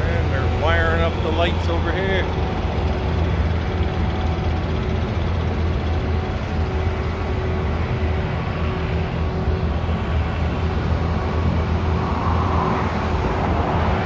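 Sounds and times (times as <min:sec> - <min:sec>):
low engine rumble: 0:00.0 - 0:14.0
road traffic noise: 0:00.0 - 0:14.0.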